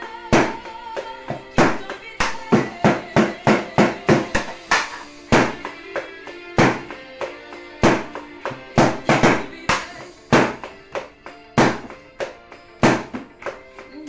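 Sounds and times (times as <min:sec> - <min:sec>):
recorded pop ballad: 0:00.0 - 0:14.0
sticks striking bucket drums: 0:00.3 - 0:13.6.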